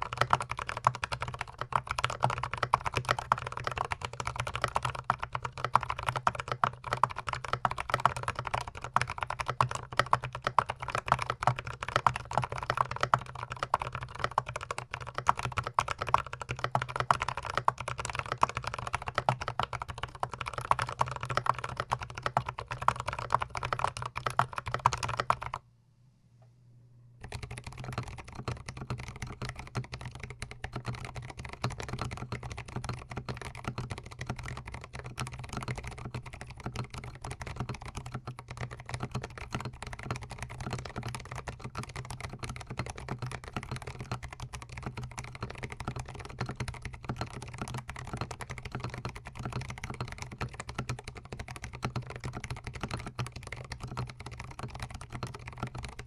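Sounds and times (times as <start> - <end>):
fast typing on mechanical keyboard: 0.0 - 25.6, 27.2 - 56.0.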